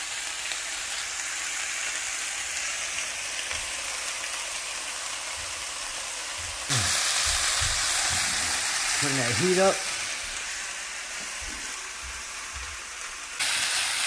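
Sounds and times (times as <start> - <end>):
sausage sizzling in a skillet: 0.0 - 14.0.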